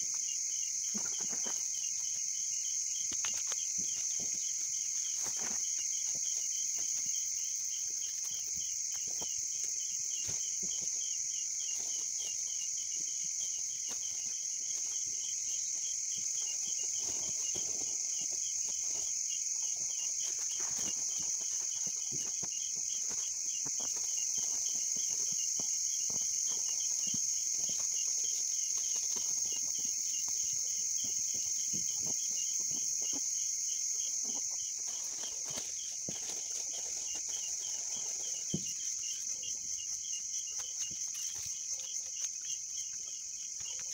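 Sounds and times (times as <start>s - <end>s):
crickets trilling: 0.0s - 43.9s
knocks and rustles on ground: 0.8s - 2.2s, 3.0s - 33.4s, 34.2s - 43.9s.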